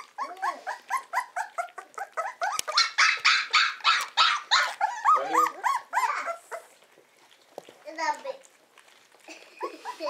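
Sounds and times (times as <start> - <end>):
puppies whining and yelping: 0.0 - 7.8, 8.6 - 10.0.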